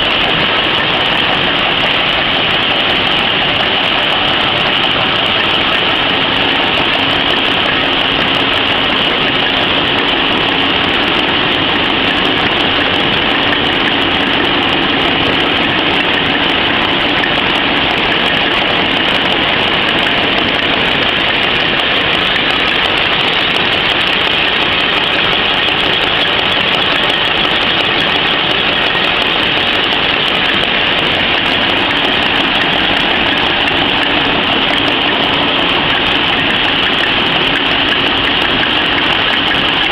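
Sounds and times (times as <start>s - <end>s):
napkin machine running: 0.0s - 39.9s.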